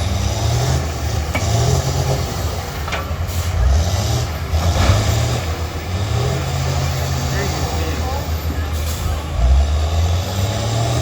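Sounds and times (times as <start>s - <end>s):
bus engines revving: 0.0s - 11.0s.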